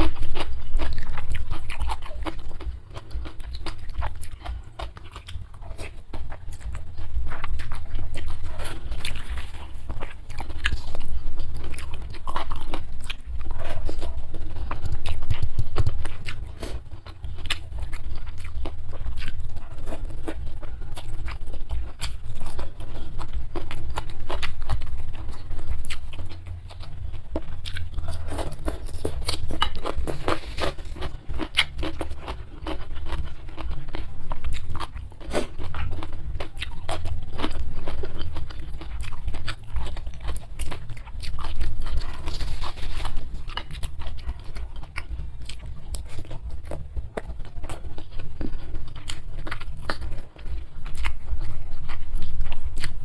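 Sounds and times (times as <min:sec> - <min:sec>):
person chewing crunchy food: 0:00.0 - 0:53.0.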